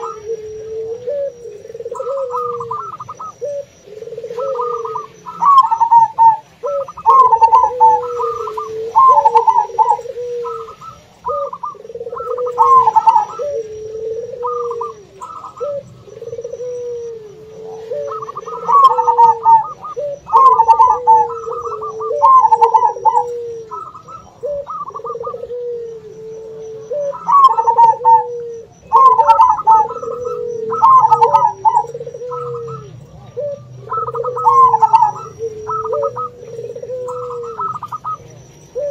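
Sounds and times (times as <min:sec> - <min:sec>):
doves trilled cooing: 0:00.0 - 0:38.9
low steady dove coos: 0:00.0 - 0:38.9.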